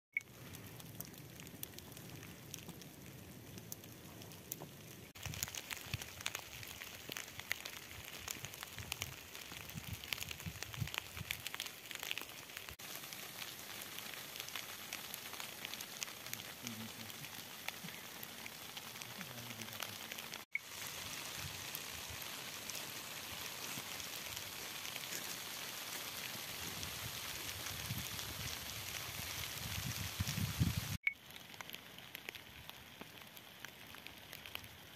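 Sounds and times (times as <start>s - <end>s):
hail striking a tent: 5.1s - 34.8s.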